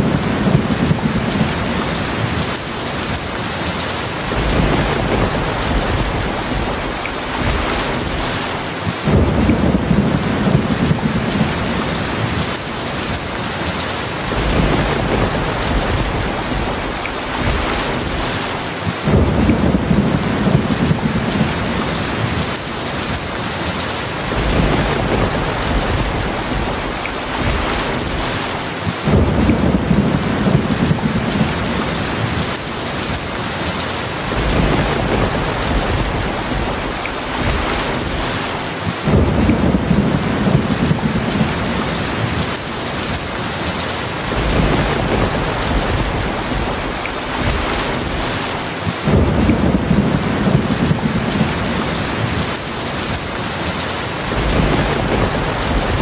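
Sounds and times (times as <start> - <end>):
heavy rain falling: 0.0 - 56.0
thunder rumbling: 0.0 - 56.0.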